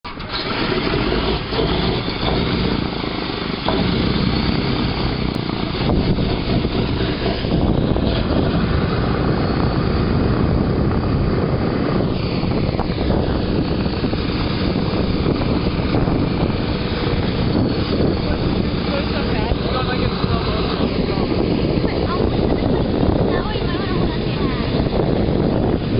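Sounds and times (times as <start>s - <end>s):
propeller aircraft engines droning: 0.1s - 25.9s.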